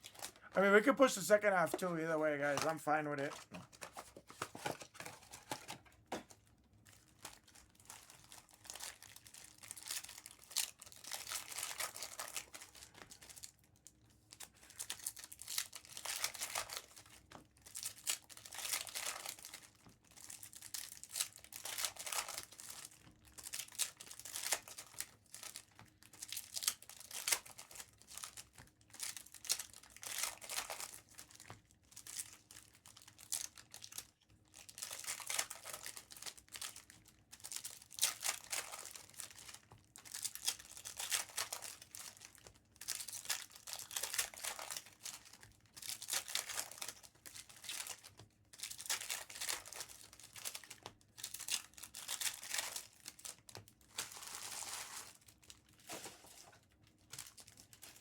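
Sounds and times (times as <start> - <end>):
packaging crinkling and tearing: 0.0 - 58.0.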